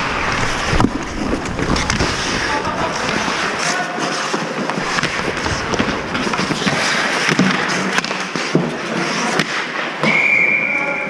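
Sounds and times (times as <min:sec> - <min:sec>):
skate blades scraping ice: 0:00.0 - 0:10.0
hockey sticks and puck clacking: 0:00.0 - 0:10.9.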